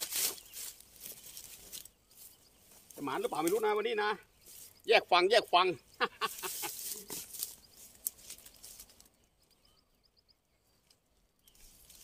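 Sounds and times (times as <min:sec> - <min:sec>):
rustling of grass and brush: 0:00.0 - 0:09.8, 0:10.6 - 0:12.0
faint high bird chirps: 0:00.2 - 0:12.0.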